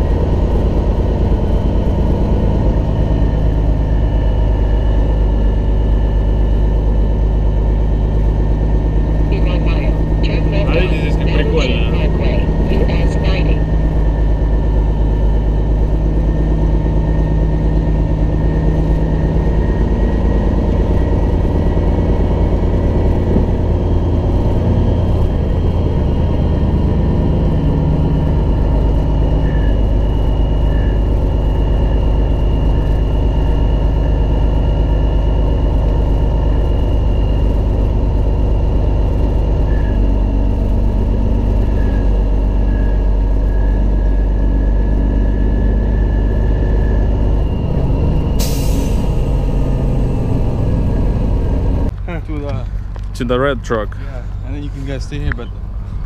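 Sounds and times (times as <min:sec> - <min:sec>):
truck diesel engine drone: 0:00.0 - 0:56.0.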